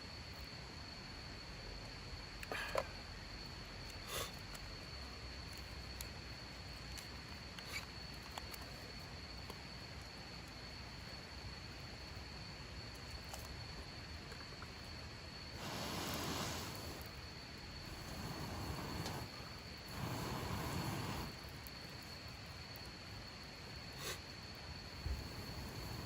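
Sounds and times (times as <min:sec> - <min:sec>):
insect high-pitched drone: 0:00.0 - 0:26.0.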